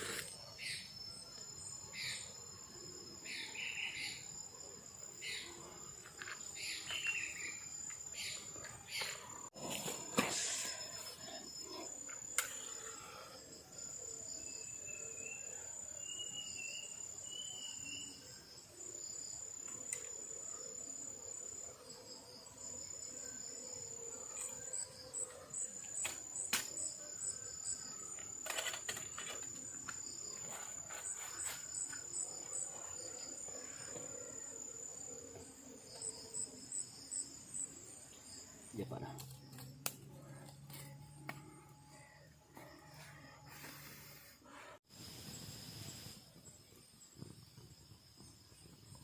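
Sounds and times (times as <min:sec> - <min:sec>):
night insects chirring: 0:00.0 - 0:49.0.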